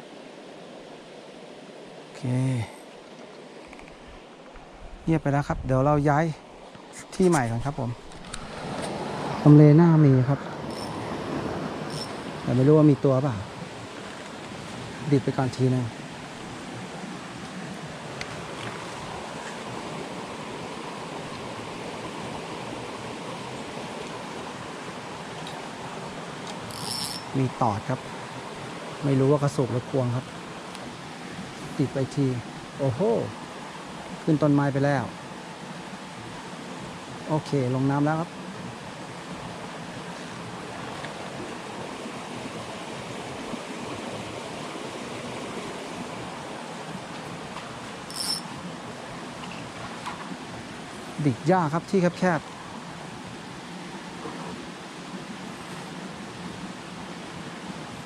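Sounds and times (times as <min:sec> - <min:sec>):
fast-flowing stream rushing: 0:00.0 - 0:58.0.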